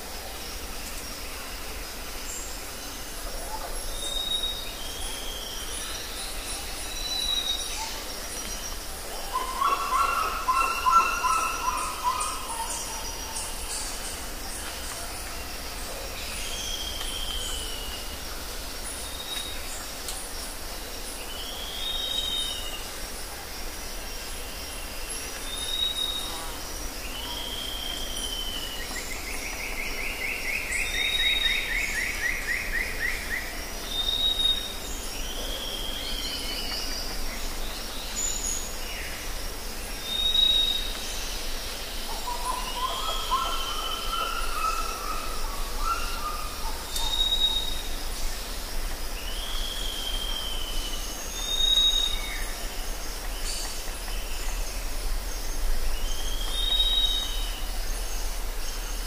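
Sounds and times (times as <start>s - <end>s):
background hiss: 0.0s - 59.0s.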